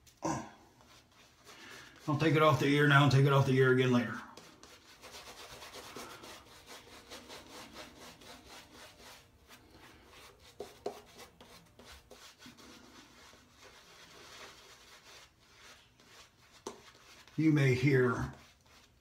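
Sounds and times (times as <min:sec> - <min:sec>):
shaving brush scrubbing skin: 0:00.8 - 0:19.0.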